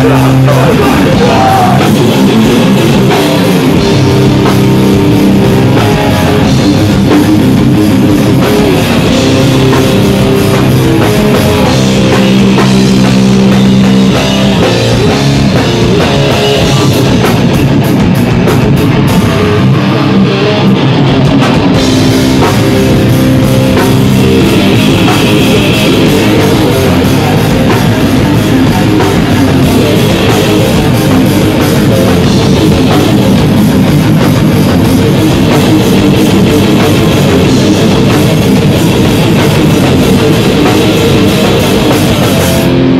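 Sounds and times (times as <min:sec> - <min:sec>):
drums: 0:00.0 - 0:42.9
electric guitars: 0:00.0 - 0:42.9.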